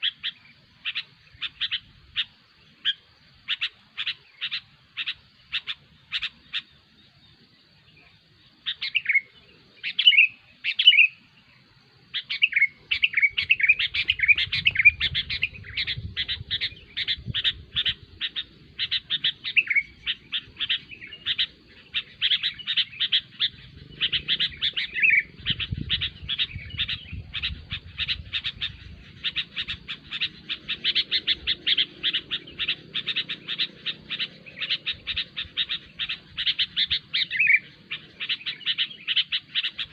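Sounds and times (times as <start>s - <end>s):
bulbuls chattering and whistling: 0.0s - 11.4s, 12.1s - 39.9s.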